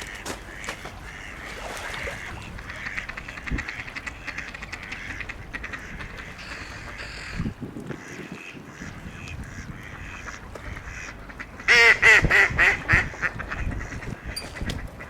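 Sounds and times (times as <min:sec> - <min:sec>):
waterbirds calling: 0:00.0 - 0:15.0.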